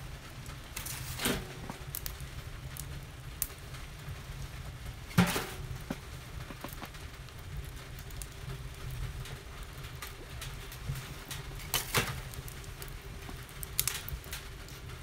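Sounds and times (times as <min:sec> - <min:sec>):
logs crackling in wood stove: 0:00.0 - 0:15.0
loud snap of burning wood: 0:00.4 - 0:15.0
sharp pops of burning wood: 0:00.4 - 0:15.0.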